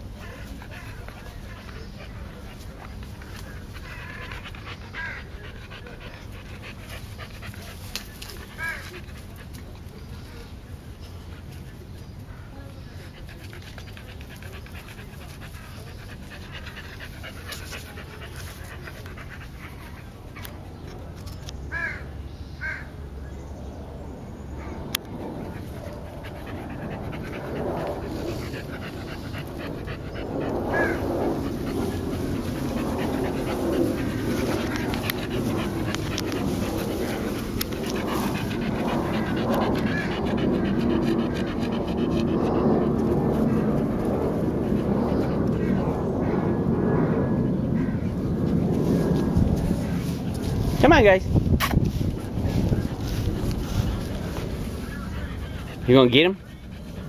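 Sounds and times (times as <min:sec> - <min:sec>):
dogs panting: 0:00.0 - 0:21.0, 0:24.8 - 0:57.0.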